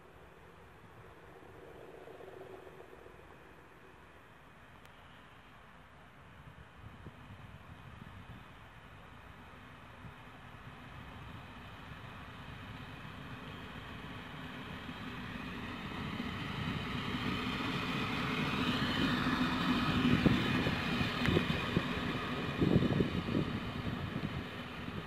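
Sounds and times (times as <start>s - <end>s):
diesel train engine passing: 0.0s - 25.0s.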